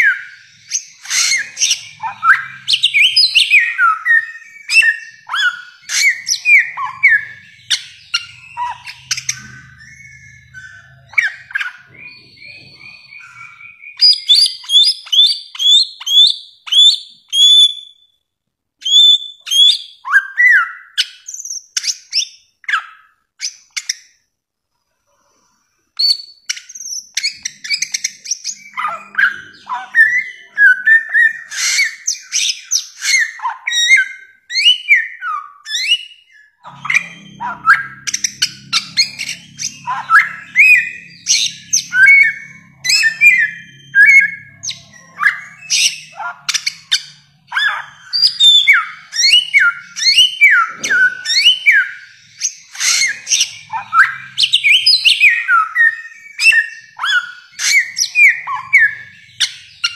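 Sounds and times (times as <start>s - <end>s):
bird chirps: 0.0s - 59.9s.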